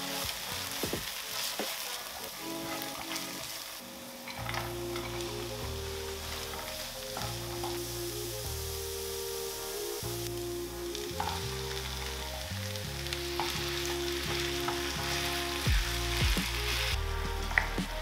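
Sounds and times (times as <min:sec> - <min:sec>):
food sizzling in a frying pan: 0:00.0 - 0:18.0
soft background music: 0:00.0 - 0:18.0
wooden spoon stirring: 0:00.0 - 0:18.0.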